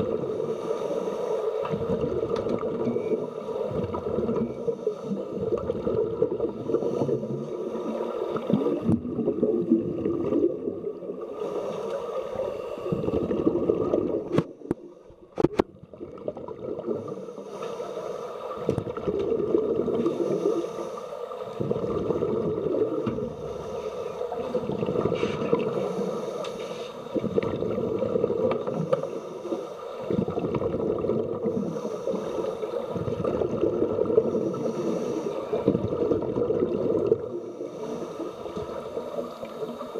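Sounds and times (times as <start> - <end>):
underwater bubbling of exhaled air: 0.0 - 17.7, 18.4 - 39.9.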